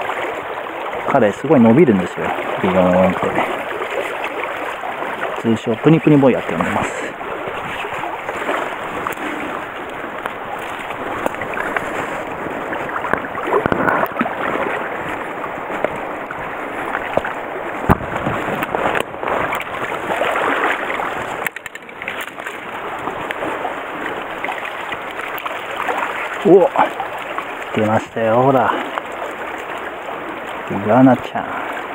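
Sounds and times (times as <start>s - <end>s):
net splashing through water and reeds: 0.0s - 31.9s
stream water rushing: 0.0s - 31.9s.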